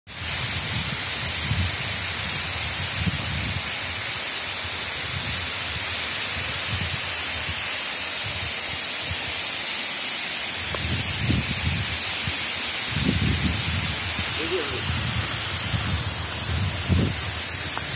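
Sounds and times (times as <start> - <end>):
waterfall rushing: 0.4 - 17.9.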